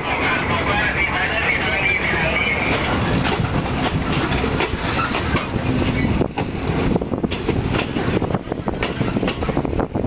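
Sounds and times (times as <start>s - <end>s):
train wheels clattering over rail joints: 0.1s - 10.0s.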